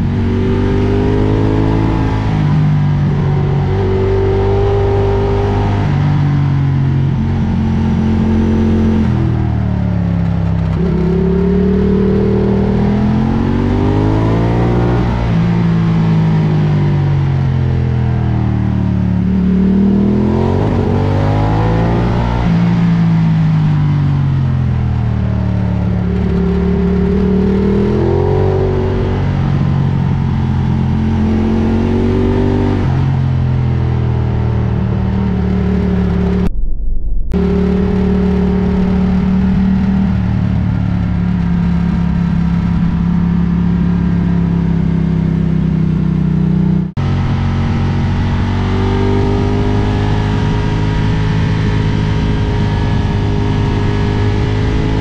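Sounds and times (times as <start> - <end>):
motorcycle engine revving: 0.0 - 36.5, 37.4 - 55.0.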